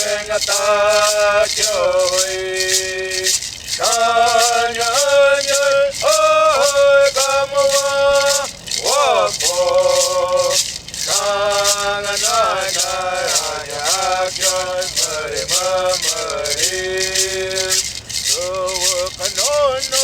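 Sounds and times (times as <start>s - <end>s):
hand rattle shaken: 0.0s - 20.0s.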